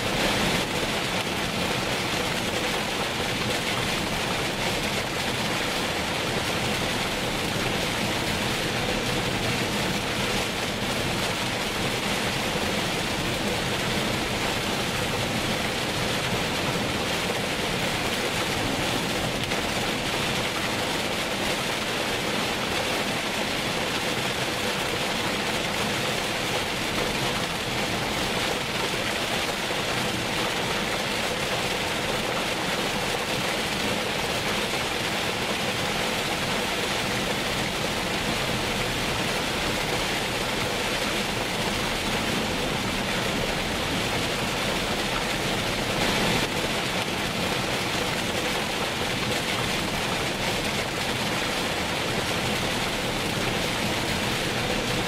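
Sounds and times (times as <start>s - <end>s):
heavy rain on a moving car: 0.0s - 55.0s.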